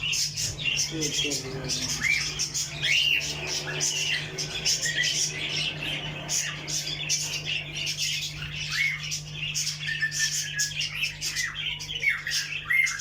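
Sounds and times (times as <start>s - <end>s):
caged birds chirping and trilling: 0.0s - 13.0s
steady low hum: 0.0s - 13.0s.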